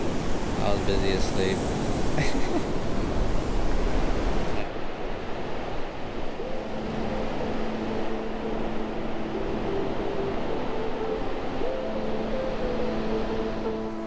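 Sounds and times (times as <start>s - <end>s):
soft music of long held notes: 0.0s - 14.0s
surf washing: 0.0s - 14.0s.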